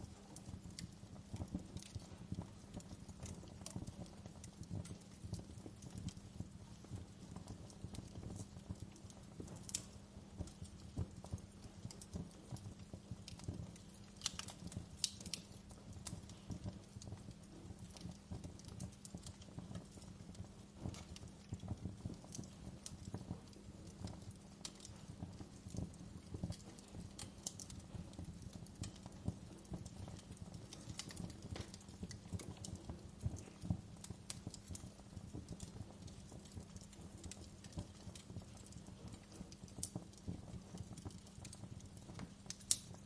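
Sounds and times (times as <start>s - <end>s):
fire popping and snapping: 0.0s - 43.0s
low rumble of fire: 0.0s - 43.0s.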